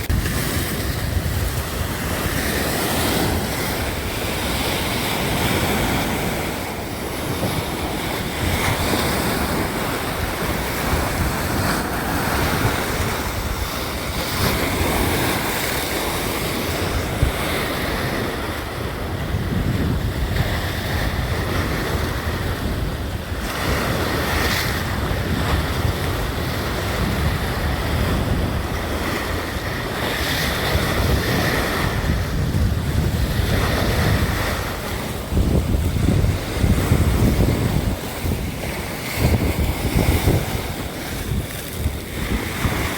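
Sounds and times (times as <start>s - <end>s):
sea waves washing ashore: 0.0s - 42.9s
wind buffeting microphone: 0.0s - 42.9s.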